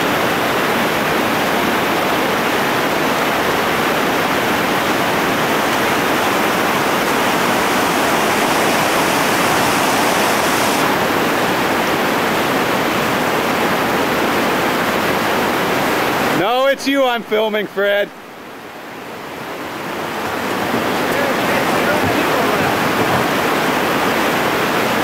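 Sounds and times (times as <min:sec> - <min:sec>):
whitewater rapid rushing: 0:00.1 - 0:16.5, 0:19.0 - 0:25.0.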